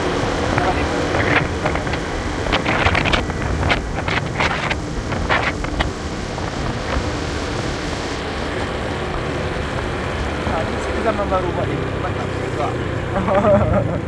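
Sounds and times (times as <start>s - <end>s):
scooter engine and tyres: 0.0s - 14.0s
wind rushing over microphone: 0.0s - 14.0s.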